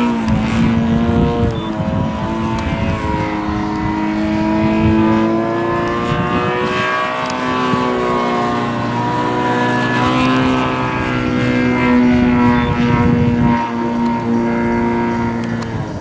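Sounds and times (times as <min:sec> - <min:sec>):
model airplane engine: 0:00.0 - 0:16.0.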